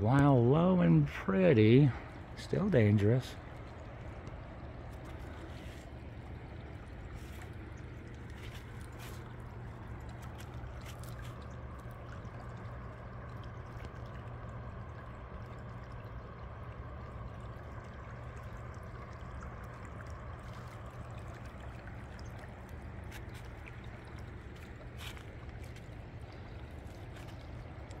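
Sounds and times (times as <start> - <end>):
water flowing over rocks: 0.0 - 28.0.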